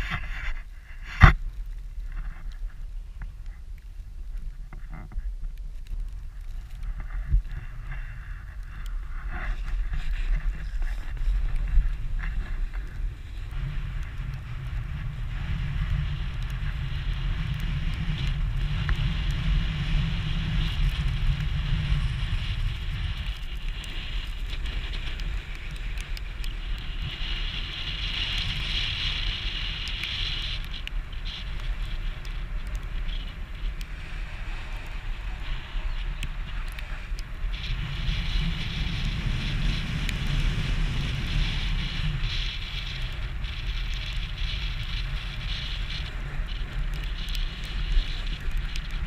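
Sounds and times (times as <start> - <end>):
wind buffeting microphone: 0.0 - 49.0
hiss of sliding over snow: 6.5 - 49.0.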